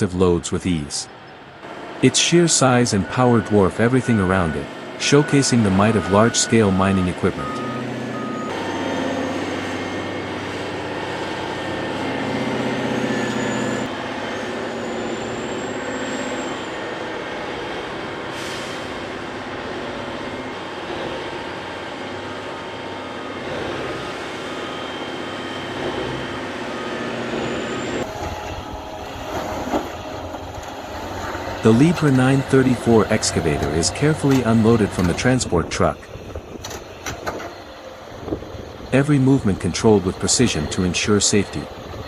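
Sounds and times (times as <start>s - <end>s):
heavy diesel machinery running: 0.0s - 42.0s
high machinery whines: 0.0s - 42.0s.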